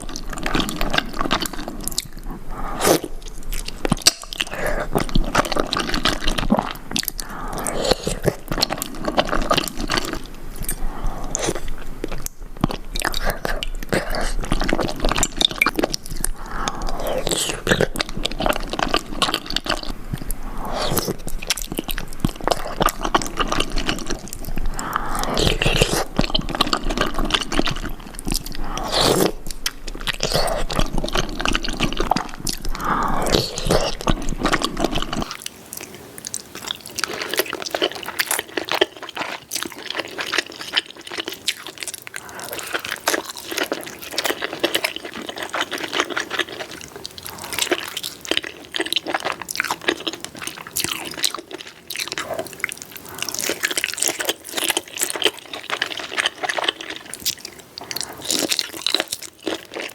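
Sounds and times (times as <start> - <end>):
wet smacking and chewing: 0.0 - 59.9.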